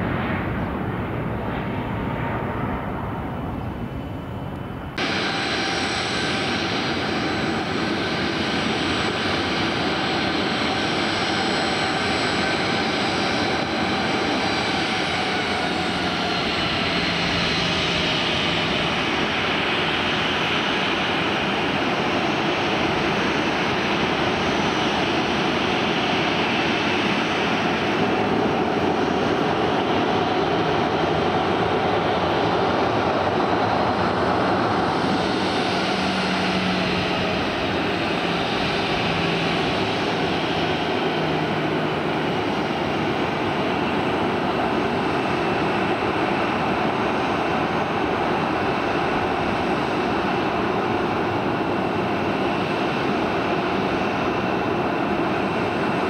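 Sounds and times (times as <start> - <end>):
jet engines rushing: 0.0 - 56.0
turbine whine: 0.0 - 56.0.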